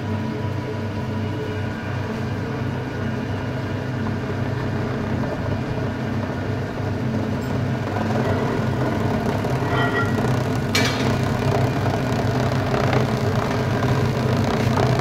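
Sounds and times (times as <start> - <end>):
hydraulic press machine humming: 0.1 - 15.0.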